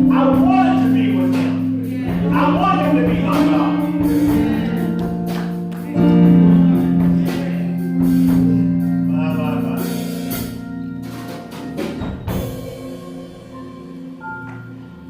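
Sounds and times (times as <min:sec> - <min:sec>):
drum and cymbal hits: 0:00.0 - 0:08.8, 0:09.8 - 0:14.5
held keyboard chords: 0:00.0 - 0:15.0.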